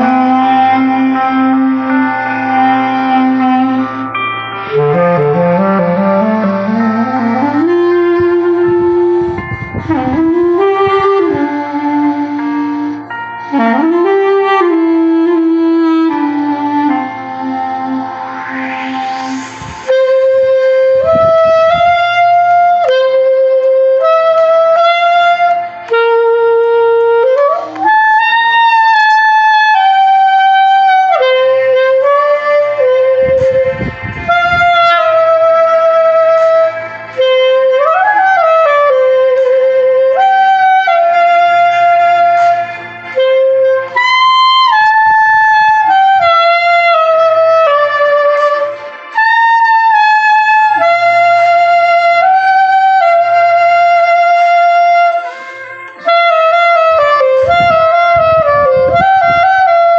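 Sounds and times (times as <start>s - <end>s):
clarinet melody: 0.0s - 59.9s.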